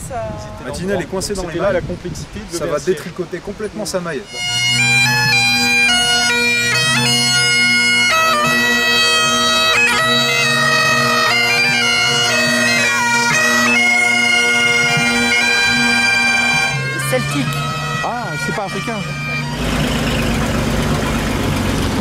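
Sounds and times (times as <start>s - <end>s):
bagpipes playing: 4.2s - 22.0s.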